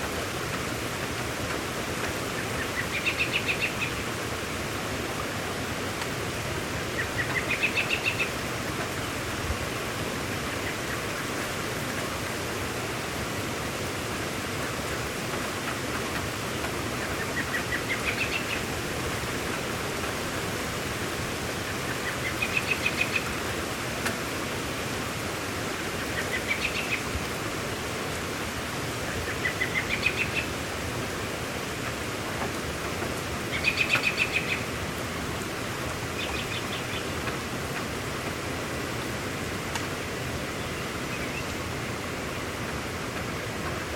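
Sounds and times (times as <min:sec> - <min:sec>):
rain hissing: 0:00.0 - 0:43.9.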